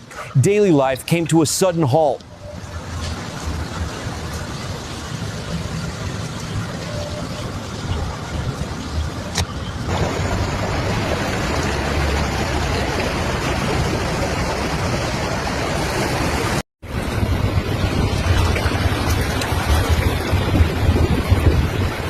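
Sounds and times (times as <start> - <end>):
wind buffeting microphone: 2.6 - 22.0
heavy storm rushing: 2.9 - 22.0.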